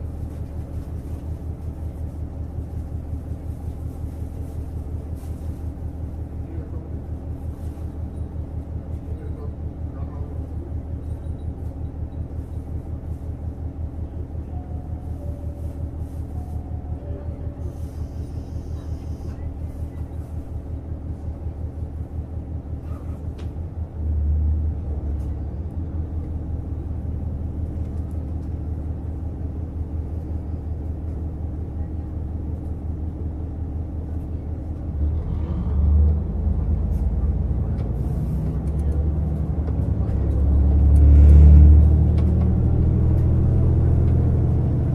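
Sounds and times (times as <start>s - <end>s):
diesel railcar rumbling: 0.0s - 44.9s.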